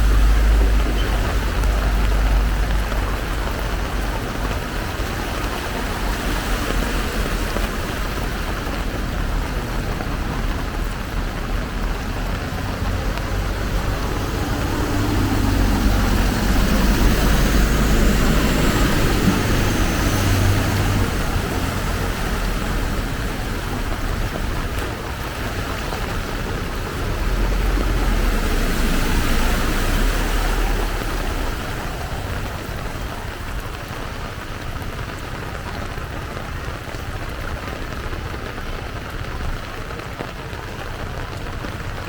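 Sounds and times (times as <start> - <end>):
heavy rain pouring: 0.0 - 42.0
vehicle engine humming: 0.0 - 42.0.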